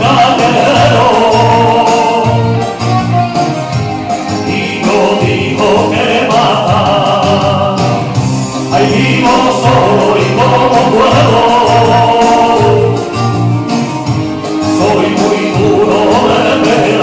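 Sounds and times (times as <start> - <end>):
man singing into microphone: 0.0 - 2.9, 4.2 - 13.2, 14.6 - 17.0
backing music through speaker: 0.0 - 17.0.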